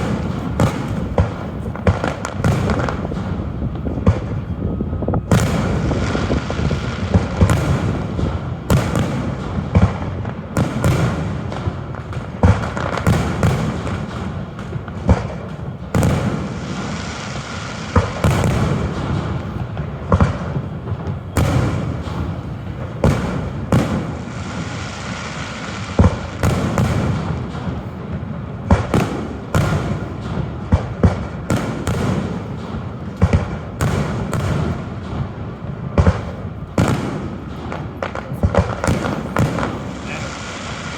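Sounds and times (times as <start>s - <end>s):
fireworks shells bursting: 0.0s - 40.9s
rumbling and crackling: 0.0s - 40.9s.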